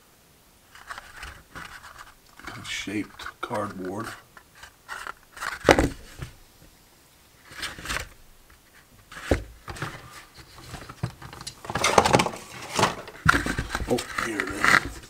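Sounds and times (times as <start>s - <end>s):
cardboard scraping and rustling: 0.7s - 6.4s, 7.4s - 15.0s.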